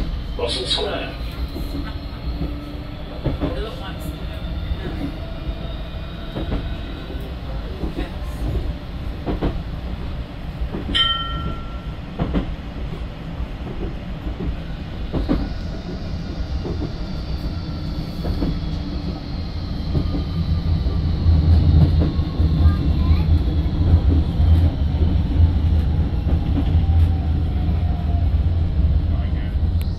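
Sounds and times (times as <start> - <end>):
tram rumbling along track: 0.0 - 29.9.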